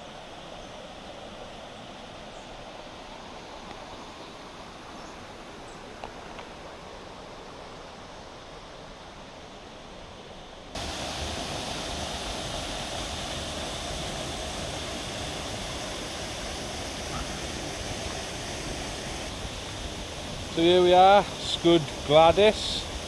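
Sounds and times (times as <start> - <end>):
river water flowing: 0.0 - 23.0
waterfall: 0.0 - 23.0.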